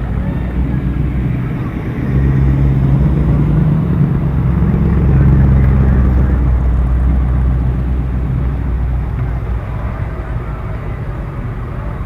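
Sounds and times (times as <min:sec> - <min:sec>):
car engine passing by: 0:00.0 - 0:12.0.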